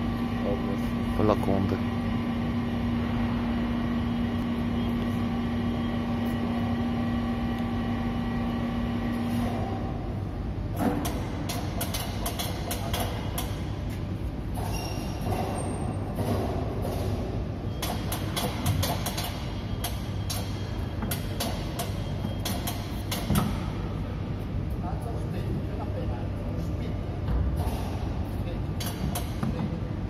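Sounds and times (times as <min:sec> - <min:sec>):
low machinery hum: 0:00.0 - 0:30.0.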